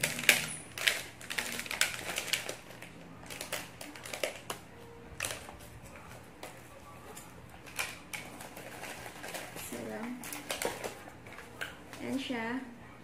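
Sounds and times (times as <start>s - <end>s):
plastic film wrapper crinkling: 0.0s - 12.2s.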